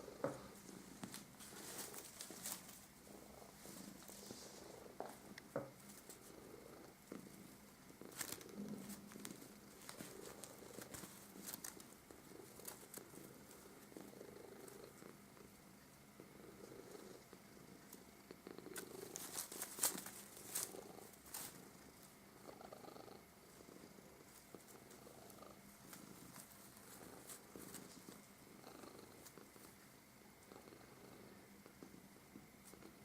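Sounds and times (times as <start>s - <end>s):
cat purring: 0.0s - 33.0s
faint rustles and clicks: 0.0s - 33.0s.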